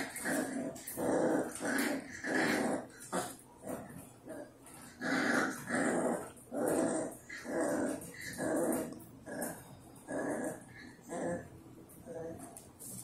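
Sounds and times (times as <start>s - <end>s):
puppies growling: 0.0s - 12.7s.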